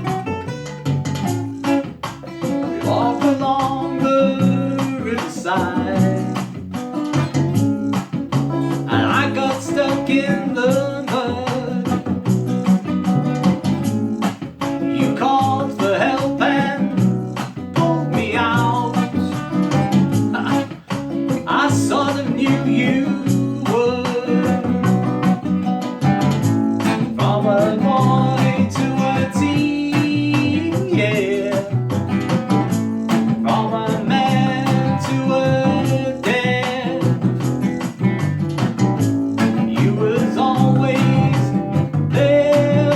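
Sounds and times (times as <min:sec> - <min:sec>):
acoustic guitar: 0:00.0 - 0:42.9
drum and bass backing track: 0:00.0 - 0:42.9.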